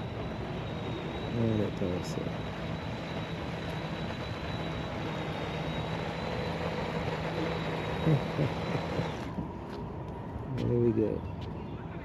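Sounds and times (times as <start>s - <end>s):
electric motor whine: 0.0s - 10.2s.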